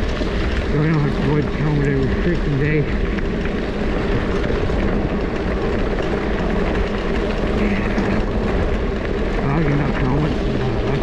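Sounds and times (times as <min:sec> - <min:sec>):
bike tyres rumbling on gravel: 0:00.0 - 0:11.0
wind buffeting microphone: 0:00.0 - 0:11.0.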